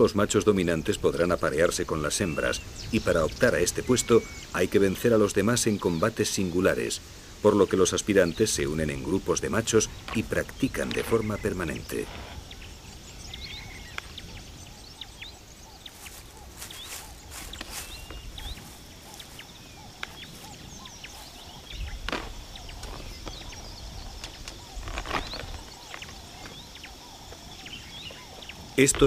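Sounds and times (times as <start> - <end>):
bird chirps: 1.2 - 6.8, 7.5 - 29.0.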